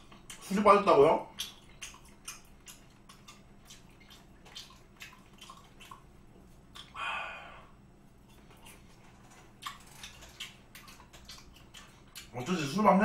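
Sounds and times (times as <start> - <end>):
wet chewing smacks and clicks: 0.0 - 7.0, 8.2 - 12.8.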